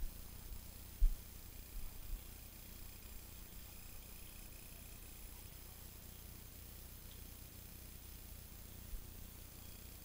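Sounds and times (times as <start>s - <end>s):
background hiss: 0.0s - 10.0s
faint high whine: 0.0s - 10.0s.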